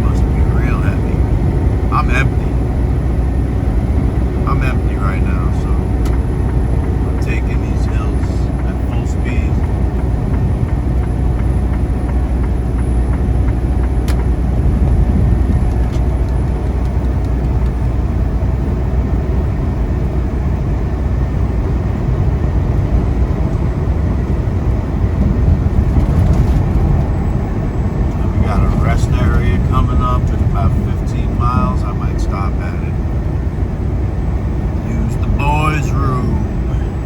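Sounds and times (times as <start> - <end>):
road noise: 0.0 - 37.0
truck engine drone: 0.0 - 37.0.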